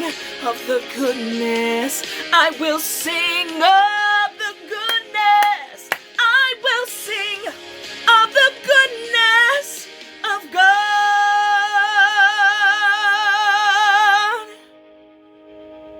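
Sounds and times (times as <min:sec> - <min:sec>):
woman singing without words: 0:00.0 - 0:14.7
soft sustained backing music: 0:00.0 - 0:15.9.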